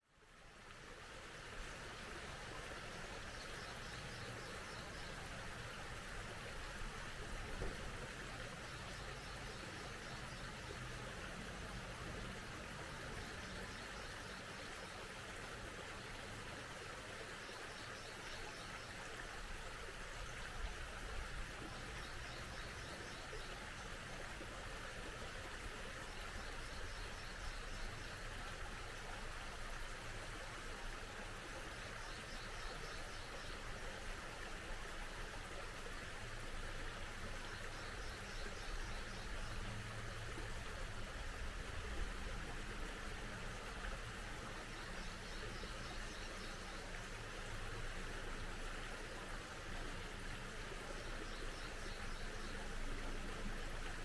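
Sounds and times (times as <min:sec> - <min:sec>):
mountain stream running: 0:00.1 - 0:54.0.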